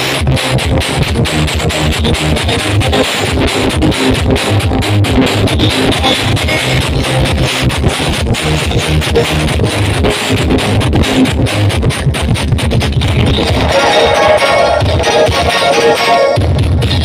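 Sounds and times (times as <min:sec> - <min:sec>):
loud bass-heavy music with guitar: 0:00.0 - 0:17.0.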